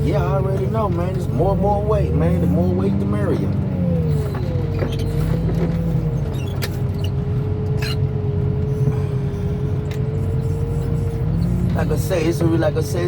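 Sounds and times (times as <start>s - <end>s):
engine whine: 0.0s - 13.0s
heavy diesel engine running: 0.0s - 13.0s.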